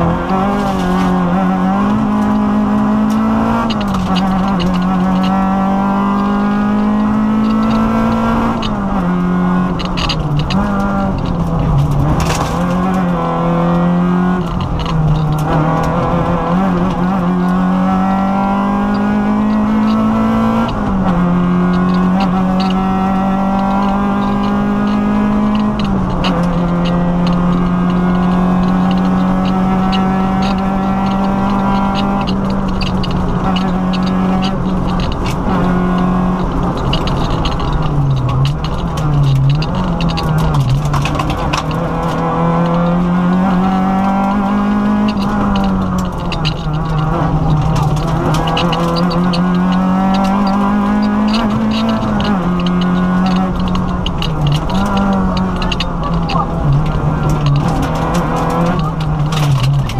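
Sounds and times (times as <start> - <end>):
rally car engine accelerating: 0.0 - 59.9
rattles and clicks in car: 0.0 - 59.9.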